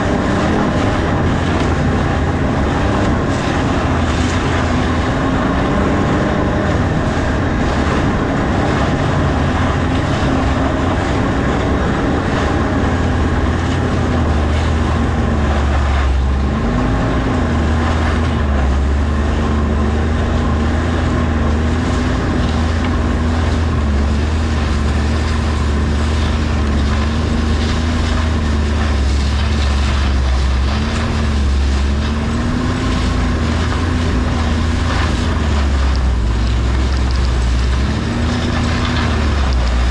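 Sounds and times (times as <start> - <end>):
engine running: 0.0 - 39.9
heavy low rumble: 0.0 - 39.9.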